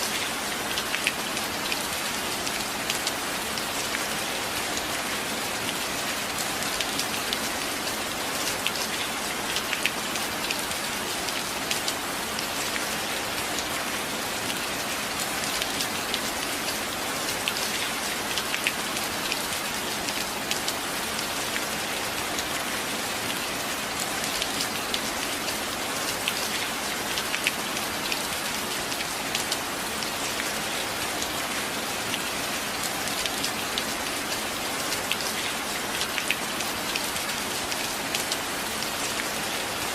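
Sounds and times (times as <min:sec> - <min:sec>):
steady rain hiss: 0:00.0 - 0:39.9
raindrops ticking on a surface: 0:00.1 - 0:13.8, 0:14.4 - 0:39.9.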